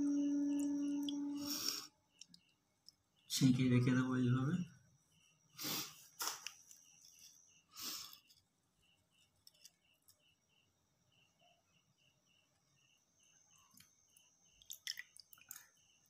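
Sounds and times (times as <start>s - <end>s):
faint high chirps: 0.0s - 5.6s, 6.4s - 14.7s.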